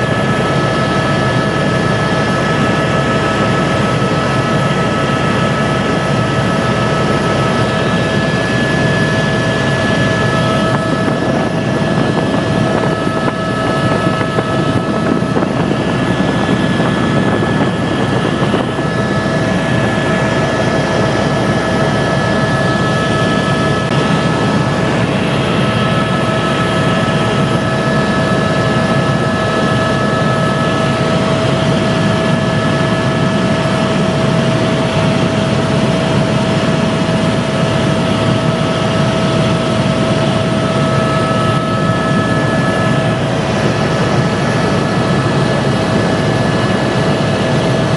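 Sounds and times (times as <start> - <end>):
helicopter roar with whining tones: 0.0 - 47.9.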